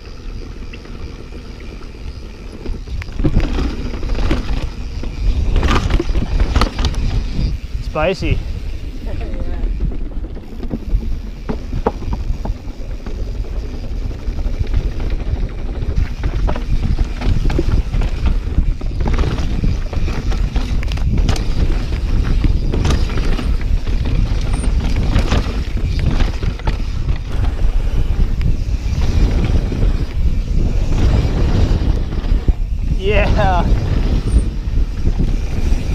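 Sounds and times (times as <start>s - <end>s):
bike rattling over rough ground: 0.0s - 35.9s
wind rumble on microphone: 0.0s - 35.9s.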